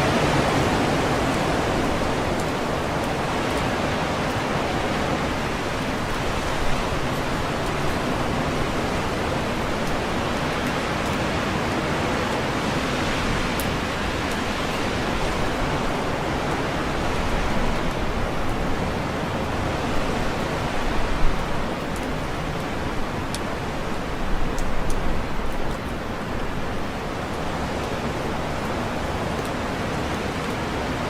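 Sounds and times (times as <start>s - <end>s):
wind rustling tree leaves: 0.0s - 31.0s.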